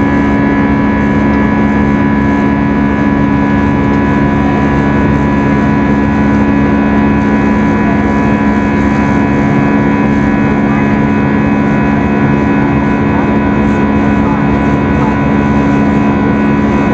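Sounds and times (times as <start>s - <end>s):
airplane cabin engine drone: 0.0s - 16.9s.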